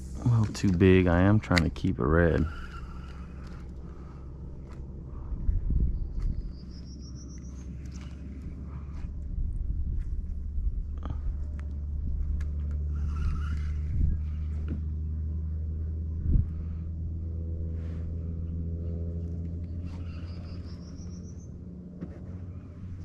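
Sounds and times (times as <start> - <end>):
kayak drive humming: 0.0 - 23.0.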